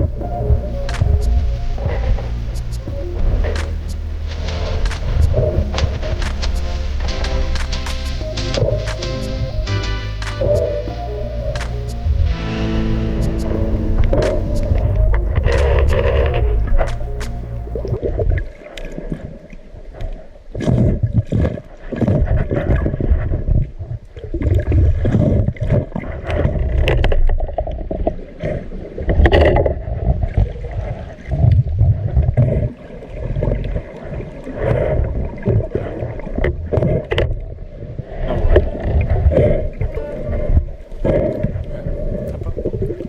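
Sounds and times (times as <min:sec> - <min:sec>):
water sloshing and gurgling: 0:00.0 - 0:43.0.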